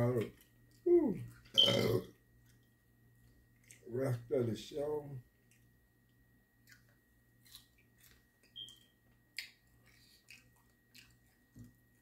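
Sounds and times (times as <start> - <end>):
faint chewing: 0.0 - 4.3, 5.4 - 12.0.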